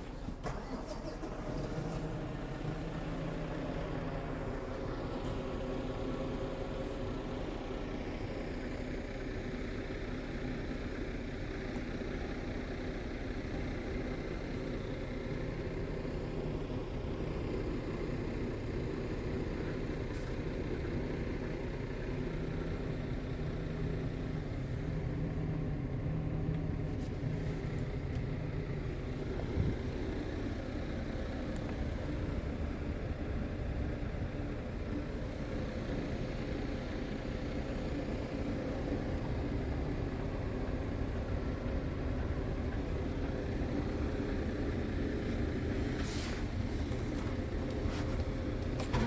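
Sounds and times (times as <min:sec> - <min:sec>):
diesel truck engine running: 0:00.0 - 0:49.0.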